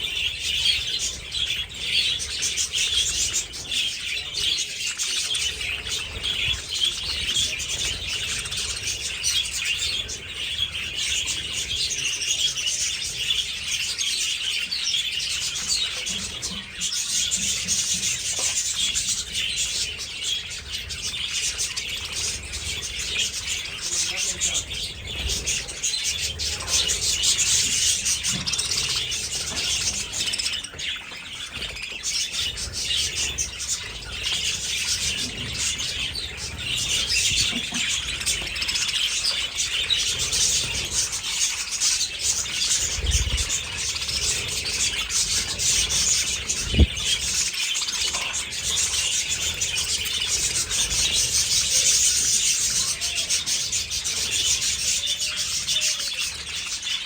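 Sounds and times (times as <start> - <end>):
budgies chattering and chirping: 0.0 - 57.0.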